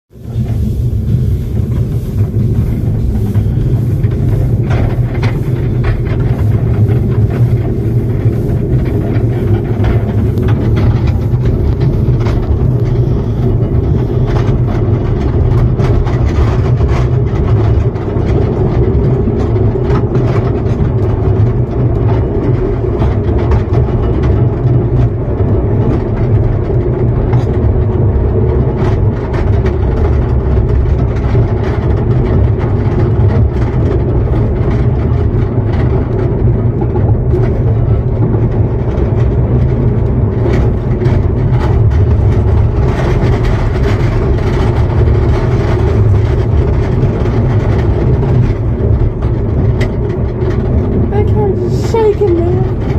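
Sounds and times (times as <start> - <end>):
train rumbling on track: 0.1 - 52.9.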